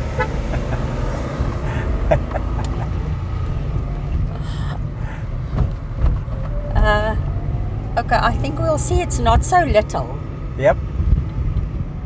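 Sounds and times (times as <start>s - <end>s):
car cabin engine and tyre rumble: 0.0s - 12.0s.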